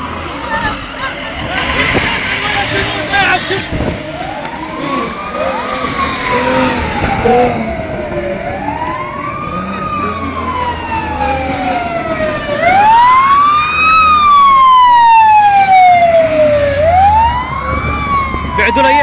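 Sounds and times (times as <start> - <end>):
car engine revving: 0.0 - 18.2
siren wailing: 0.0 - 19.0.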